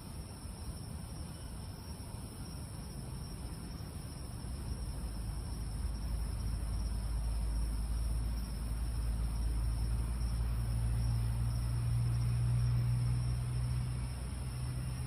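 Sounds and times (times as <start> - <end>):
night insects chorus: 0.0 - 15.0.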